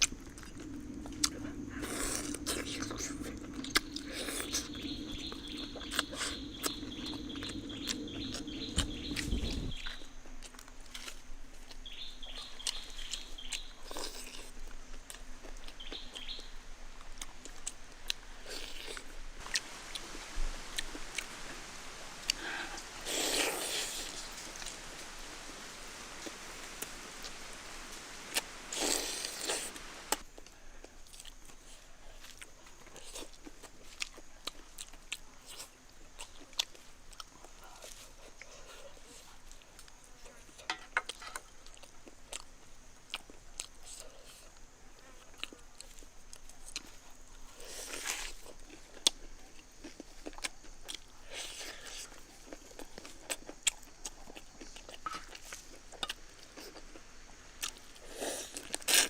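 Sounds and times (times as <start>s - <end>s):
chewing crispy fried food: 0.0s - 59.0s.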